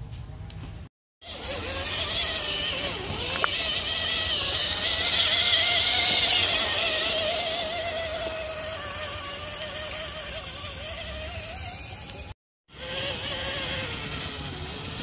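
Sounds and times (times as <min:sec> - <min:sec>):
toy truck electric motor whining: 0:01.2 - 0:15.0.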